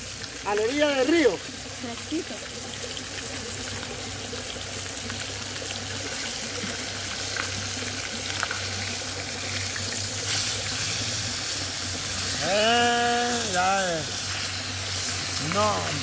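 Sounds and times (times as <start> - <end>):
fish sizzling in hot oil: 0.0 - 16.0
small crackles of frying oil: 0.0 - 16.0.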